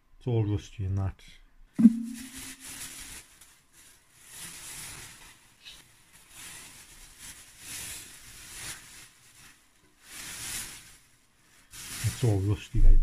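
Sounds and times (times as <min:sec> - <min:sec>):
plastic bags rustling and crinkling: 0:02.1 - 0:12.8.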